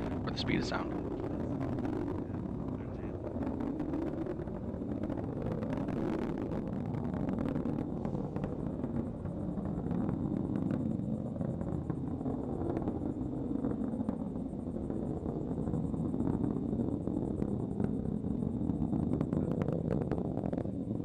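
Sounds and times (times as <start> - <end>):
rocket rumbling and crackling: 0.0 - 21.0.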